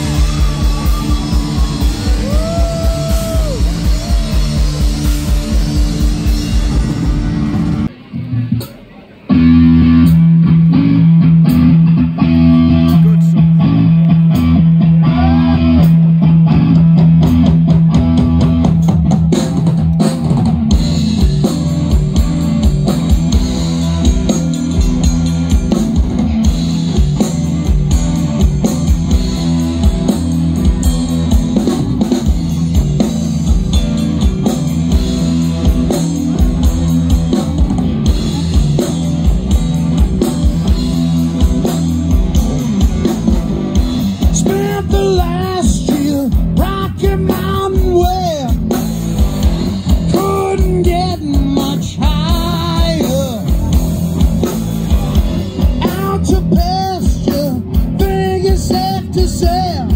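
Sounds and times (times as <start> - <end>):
drum kit beat: 0.0 - 7.9, 8.5 - 59.9
bass guitar: 0.0 - 59.9
electric guitars: 0.0 - 59.9.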